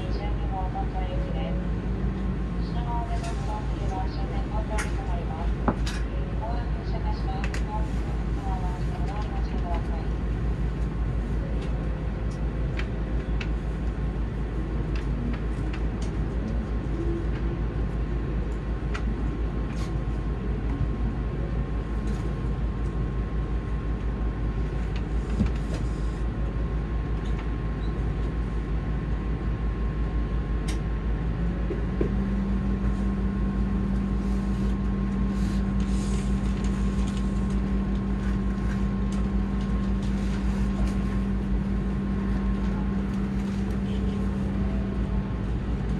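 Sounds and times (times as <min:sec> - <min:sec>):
steady low hum: 0:00.0 - 0:45.9
train running rumble: 0:00.0 - 0:45.9.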